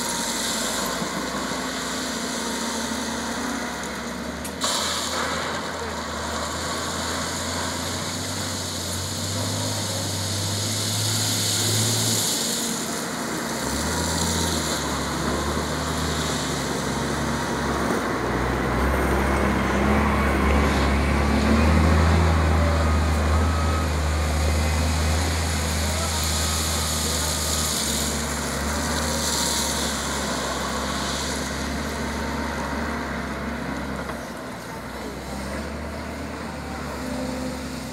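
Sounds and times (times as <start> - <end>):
excavator diesel engine working: 0.0 - 37.9.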